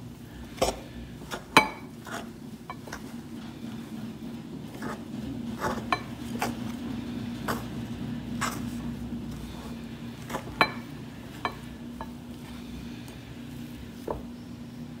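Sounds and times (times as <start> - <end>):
fork scraping dough in bowl: 0.6 - 3.2, 4.7 - 14.1.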